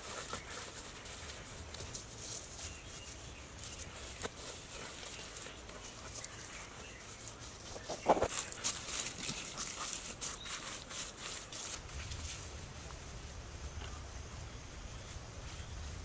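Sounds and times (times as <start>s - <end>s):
mud handling and rustling: 0.0s - 14.1s
small crackles: 0.0s - 14.2s.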